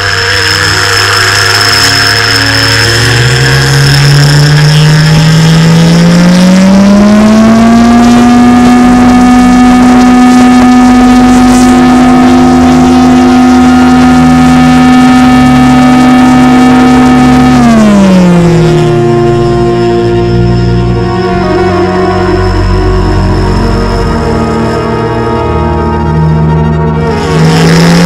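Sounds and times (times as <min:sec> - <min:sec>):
motor-driven siren wailing: 0:00.0 - 0:28.0.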